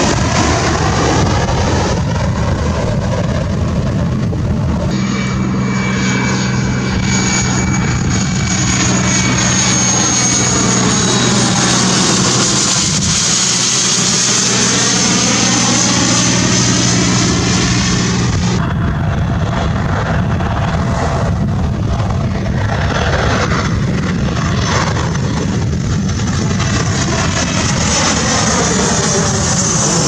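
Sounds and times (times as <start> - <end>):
another aircraft: 0.0 - 30.0
jet aircraft passing overhead: 0.0 - 30.0.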